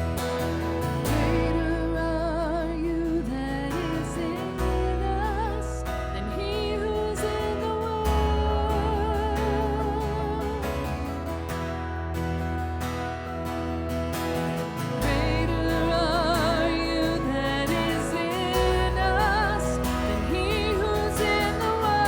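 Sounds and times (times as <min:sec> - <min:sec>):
sustained bass notes: 0:00.0 - 0:22.0.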